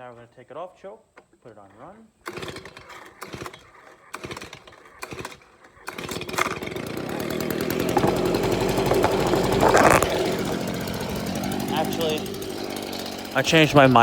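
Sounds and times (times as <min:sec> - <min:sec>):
recoil starter pulls: 0:01.1 - 0:14.0
leaf blower engine running: 0:01.6 - 0:14.0.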